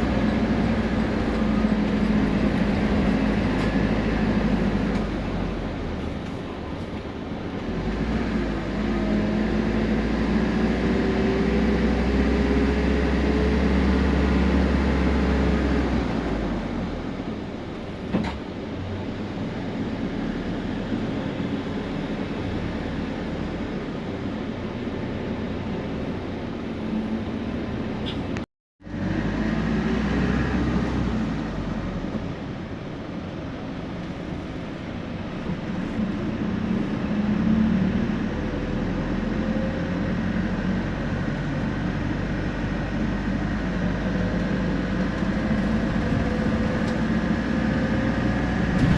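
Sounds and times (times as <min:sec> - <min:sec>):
bus engine droning with whine: 0:00.0 - 0:48.9.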